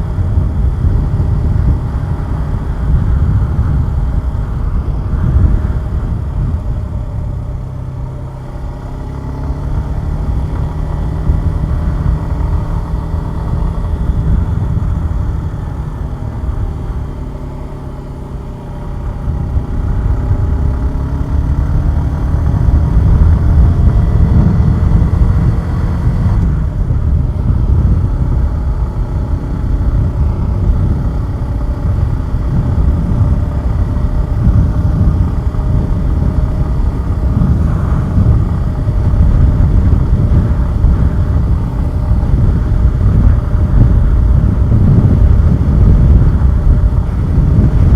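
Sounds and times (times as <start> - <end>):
motorcycle engine running: 0.0 - 47.9
wind rushing over microphone: 0.0 - 47.9.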